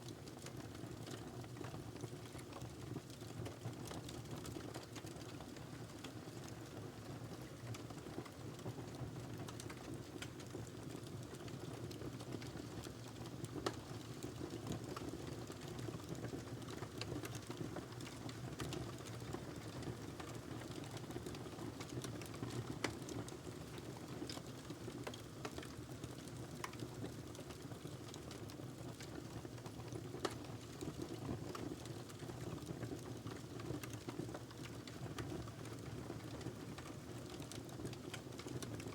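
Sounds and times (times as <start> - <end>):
burning log crackling and popping: 7.5 - 38.9.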